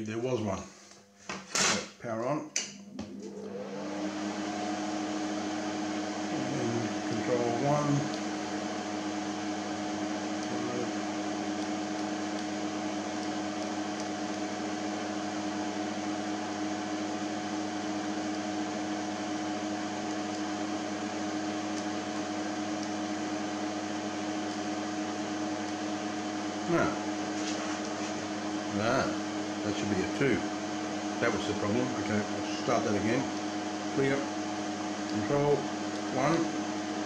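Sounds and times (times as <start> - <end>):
computer cooling fans whirring: 2.0 - 37.0.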